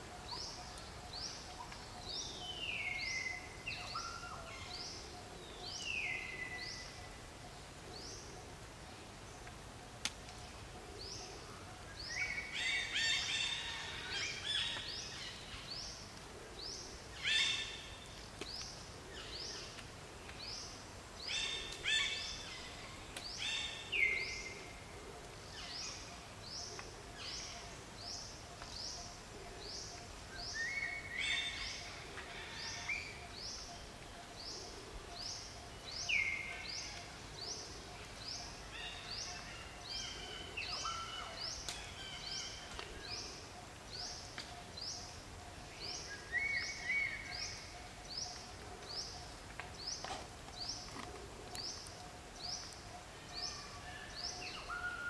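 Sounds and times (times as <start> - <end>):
bird calls: 10.4 - 55.0.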